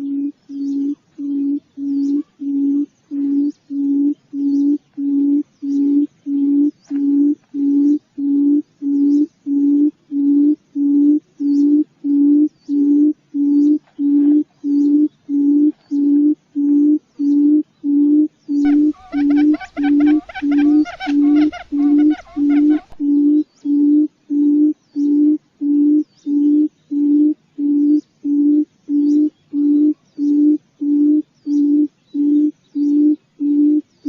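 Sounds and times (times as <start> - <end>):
faint high chirps: 0.0 - 33.9
quail lure call low hoots: 0.0 - 33.9.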